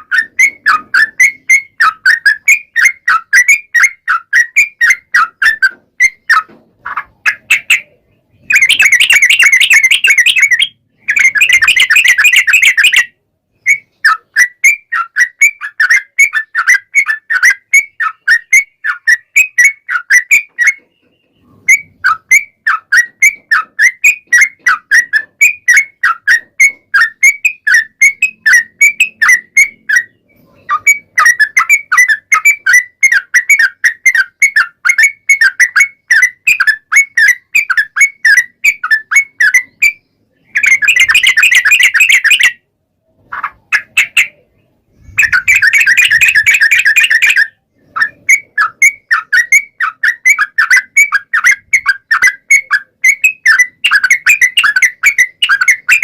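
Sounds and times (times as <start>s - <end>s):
rapid chattering trills: 0.0s - 13.1s, 13.9s - 42.6s, 43.2s - 56.0s
bulbul singing: 0.0s - 56.0s.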